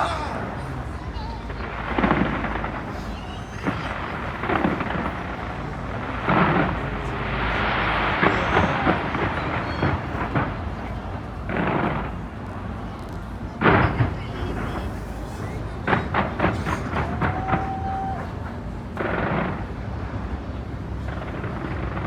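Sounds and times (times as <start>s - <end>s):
fireworks booming with echo: 0.0s - 22.0s
fireworks crackling: 0.0s - 22.0s.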